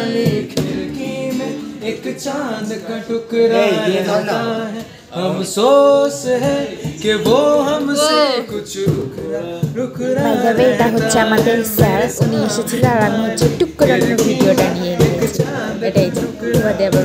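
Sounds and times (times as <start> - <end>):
acoustic guitar: 0.0 - 17.0
man singing: 0.0 - 17.0.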